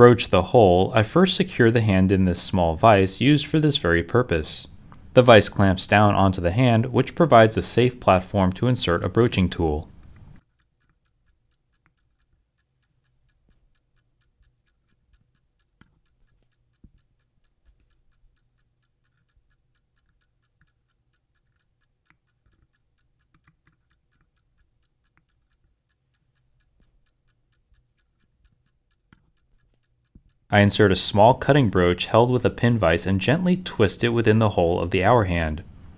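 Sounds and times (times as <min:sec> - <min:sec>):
pocket watch ticking quickly: 0:00.1 - 0:35.9.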